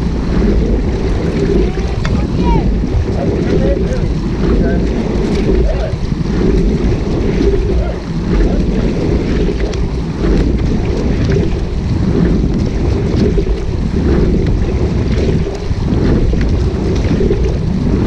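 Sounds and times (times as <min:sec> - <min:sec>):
water rushing along hull: 0:00.0 - 0:18.0
wind buffeting microphone: 0:00.0 - 0:18.0.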